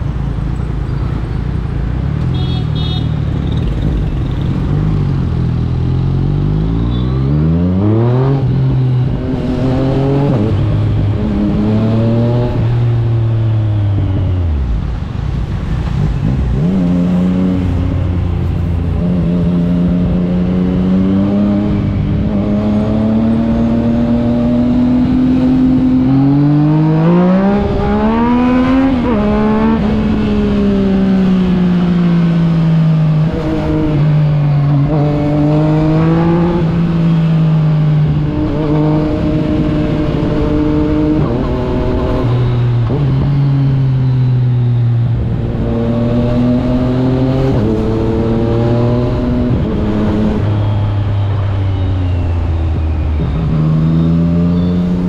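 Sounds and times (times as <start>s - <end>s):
motorcycle engine revving: 2.4s - 55.0s.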